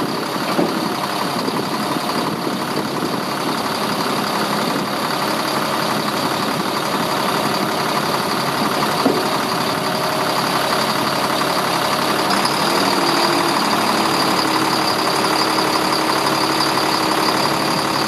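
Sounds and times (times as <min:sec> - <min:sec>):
diesel engine running: 0:00.0 - 0:18.0
steady hydraulic whine: 0:00.0 - 0:18.0.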